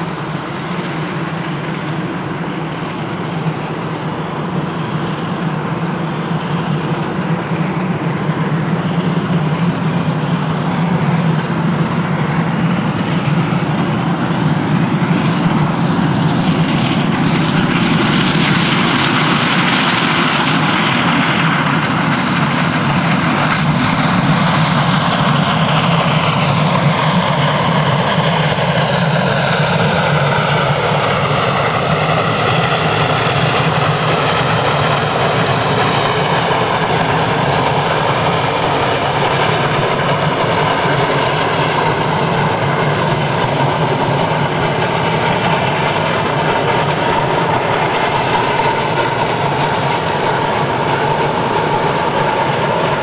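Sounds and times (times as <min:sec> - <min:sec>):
steam locomotive passing: 0:00.0 - 0:53.0.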